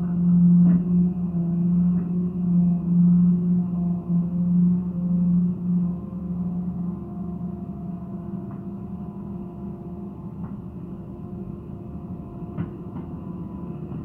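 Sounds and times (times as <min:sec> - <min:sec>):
excavator engine humming with whine: 0:00.0 - 0:14.0.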